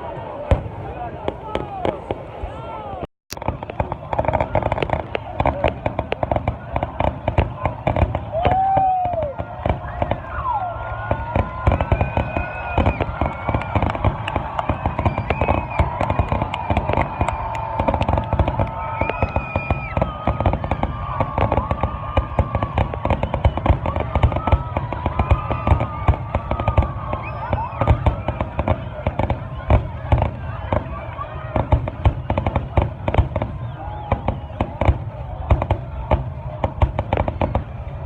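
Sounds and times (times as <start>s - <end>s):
fireworks bangs and crackles: 0.0s - 38.0s
whistling fireworks: 0.0s - 38.0s.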